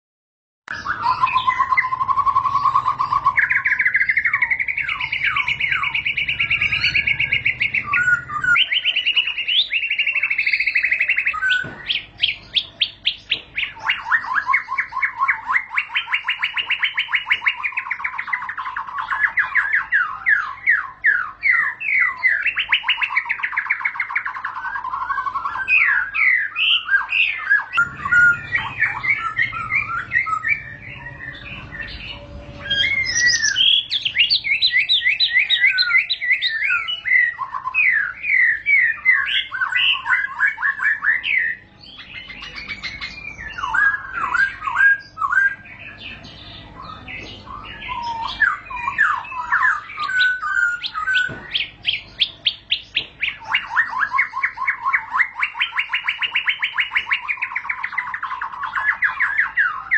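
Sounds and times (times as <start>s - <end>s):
songbird singing whistles and trills: 0.7s - 59.9s.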